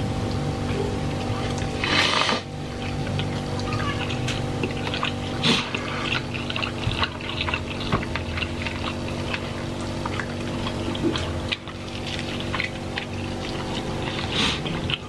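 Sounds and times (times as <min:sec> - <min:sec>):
low hum: 0:00.0 - 0:15.0
wet chewing and lip-smacking: 0:00.0 - 0:15.0.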